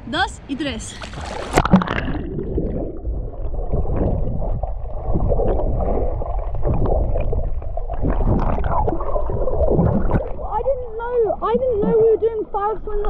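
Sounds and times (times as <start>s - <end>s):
muffled underwater water churning: 0.9s - 13.0s.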